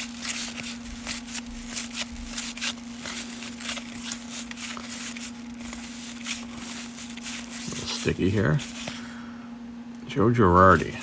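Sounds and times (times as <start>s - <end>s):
cards rustling and flicking: 0.0s - 9.0s
steady low hum: 0.0s - 11.0s.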